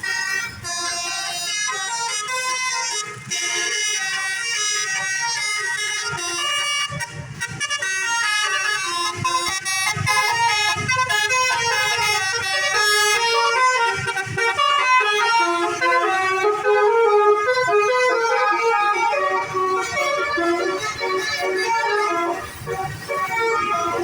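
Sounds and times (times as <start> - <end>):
musical bus air horn: 0.0 - 24.0.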